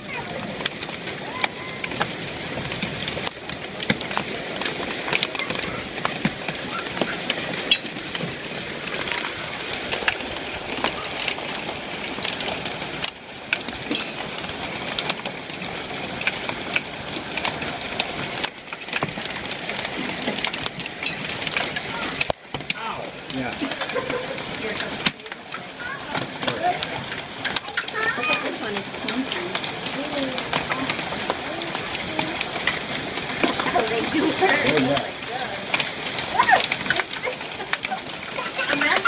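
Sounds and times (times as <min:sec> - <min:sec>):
hailstones pattering on hard surfaces: 0:00.0 - 0:39.0
rain hissing: 0:00.0 - 0:39.0.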